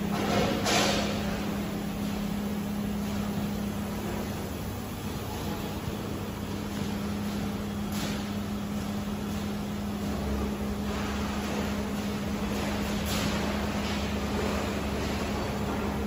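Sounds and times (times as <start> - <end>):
factory machinery hum: 0.0 - 16.0.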